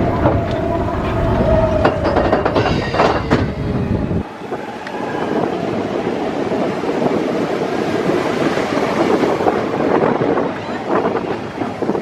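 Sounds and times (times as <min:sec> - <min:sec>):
roller coaster rumbling on track: 0:00.0 - 0:12.0
wind noise on microphone: 0:00.0 - 0:12.0.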